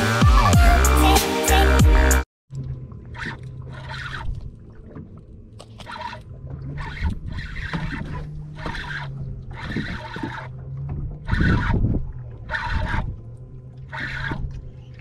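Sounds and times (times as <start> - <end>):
steady low hum: 2.5 - 15.0
waves lapping against boat hull: 2.5 - 15.0.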